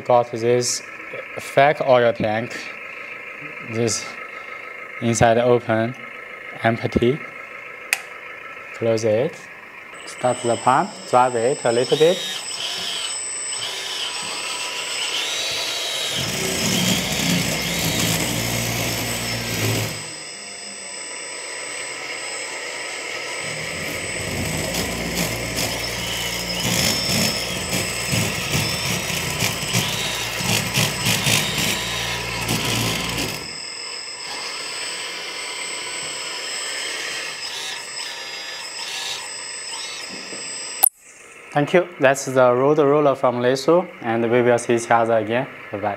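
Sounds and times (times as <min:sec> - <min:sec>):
hydraulic pump whining: 0:00.0 - 0:44.1
drive motor and gears whirring: 0:00.7 - 0:41.5.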